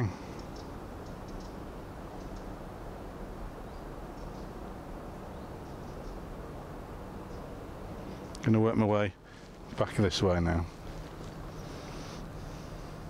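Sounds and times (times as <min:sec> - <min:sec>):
small birds chirping: 0:00.0 - 0:02.6, 0:03.2 - 0:06.4, 0:07.2 - 0:13.0
low hiss and rumble: 0:00.0 - 0:13.0.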